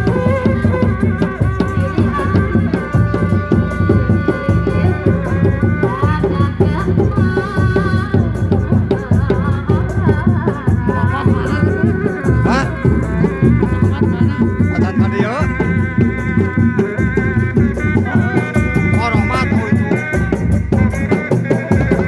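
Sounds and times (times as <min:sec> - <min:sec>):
dense steady drumming: 0:00.0 - 0:22.0
ornamented melody line: 0:00.0 - 0:22.0
rattling percussion: 0:00.0 - 0:22.0.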